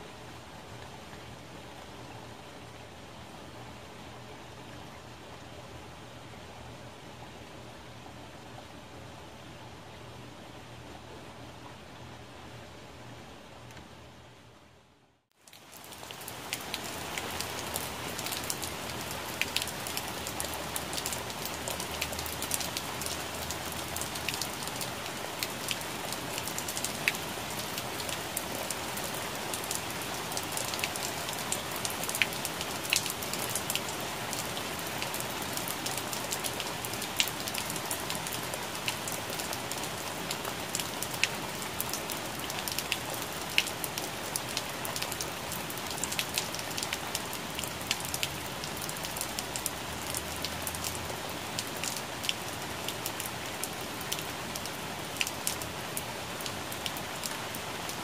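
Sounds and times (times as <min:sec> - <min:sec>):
rain falling on leaves: 0:00.0 - 0:05.5, 0:15.3 - 0:58.0.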